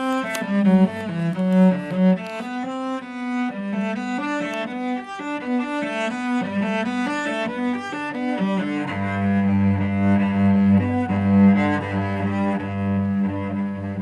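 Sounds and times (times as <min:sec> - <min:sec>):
bowed cello: 0:00.0 - 0:14.0.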